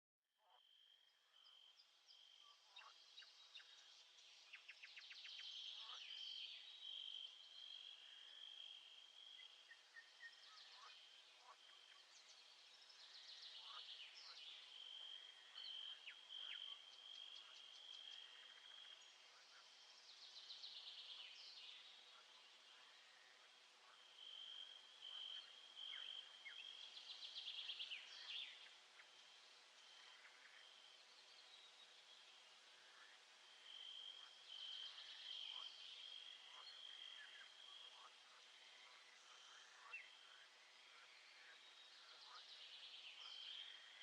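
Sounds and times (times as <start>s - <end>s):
birds singing: 1.3s - 44.0s.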